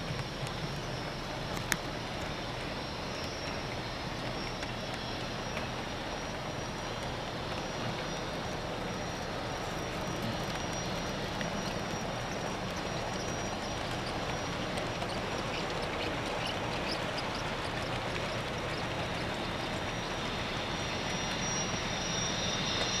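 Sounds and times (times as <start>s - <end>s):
model train wheels rumbling on rails: 0.0s - 23.0s.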